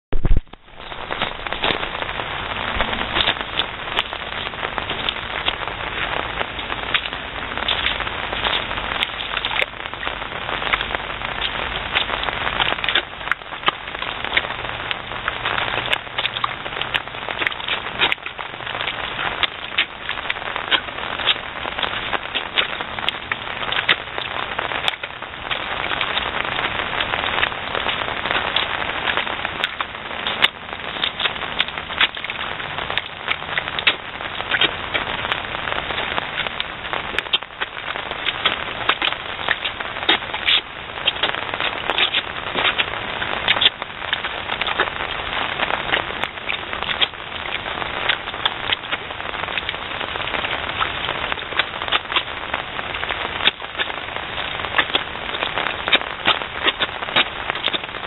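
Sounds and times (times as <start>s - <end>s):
rain falling on grass: 0.0s - 58.0s
sharp ticks of raindrops: 0.0s - 58.0s.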